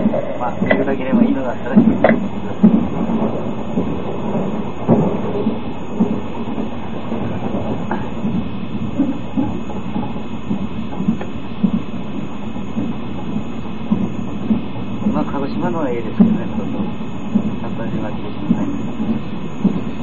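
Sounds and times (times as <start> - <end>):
train running gear rumble: 0.0 - 20.0.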